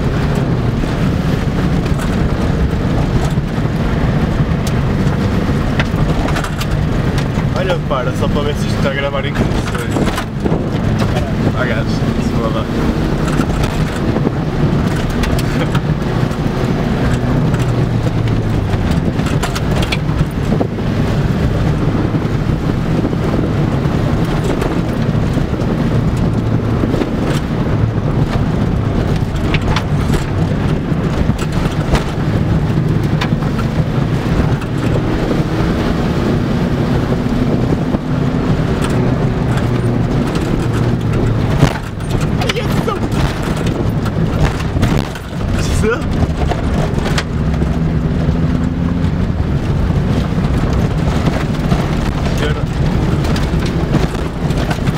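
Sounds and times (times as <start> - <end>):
diesel engine running: 0.0 - 54.9
tyres rumbling on gravel: 0.0 - 54.9
short knocks and rattles: 1.4 - 35.6, 37.3 - 54.9.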